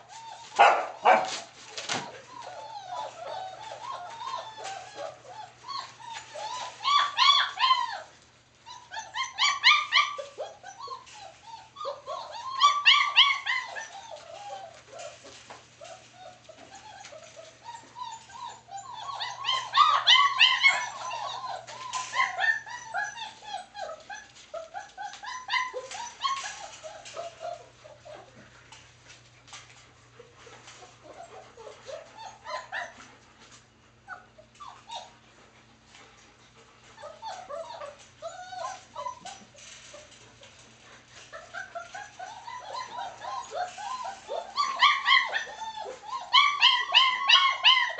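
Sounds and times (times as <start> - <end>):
puppies whining and yelping: 0.0 - 47.9.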